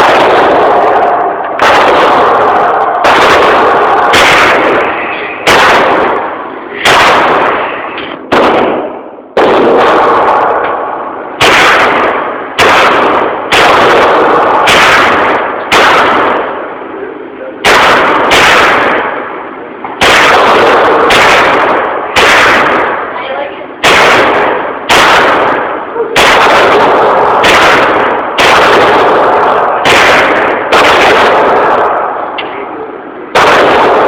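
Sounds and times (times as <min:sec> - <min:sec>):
gunshots with echo: 0:00.0 - 0:34.0.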